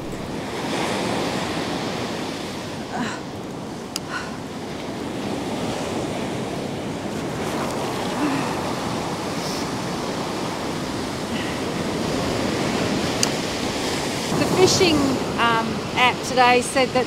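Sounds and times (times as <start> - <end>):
ocean surf on beach: 0.0 - 17.0.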